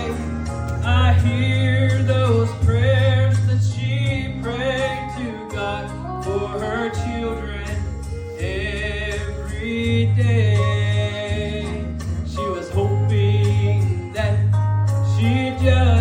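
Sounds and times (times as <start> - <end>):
instrumental accompaniment: 0.0 - 16.0
man singing gospel song: 0.0 - 16.0
sustained bass notes: 0.0 - 16.0.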